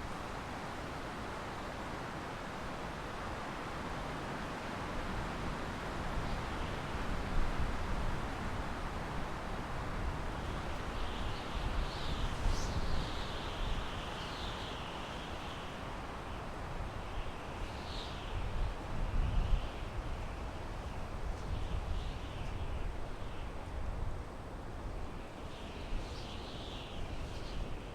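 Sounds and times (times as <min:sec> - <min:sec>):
wind blowing through pine trees: 0:00.0 - 0:27.9.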